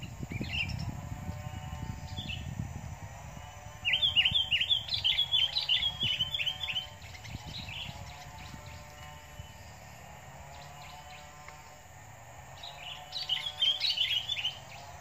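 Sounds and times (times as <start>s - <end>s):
bird chirping: 0.0s - 11.3s, 12.6s - 15.0s.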